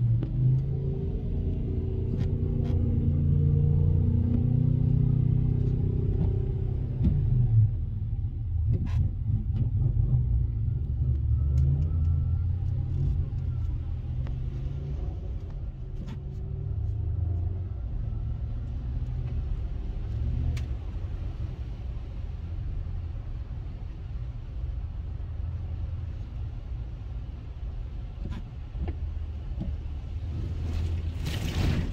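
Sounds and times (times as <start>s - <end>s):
vehicle engine and road rumble: 0.0s - 31.9s.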